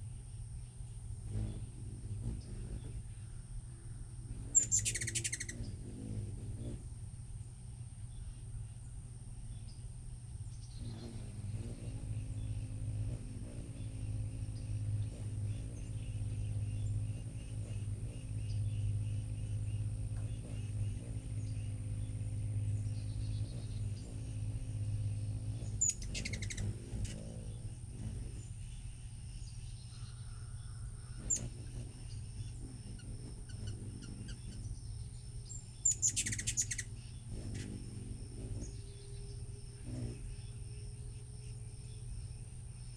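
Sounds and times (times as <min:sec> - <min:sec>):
hummingbirds chirping: 0:00.0 - 0:42.9
steady low hum: 0:00.0 - 0:42.9.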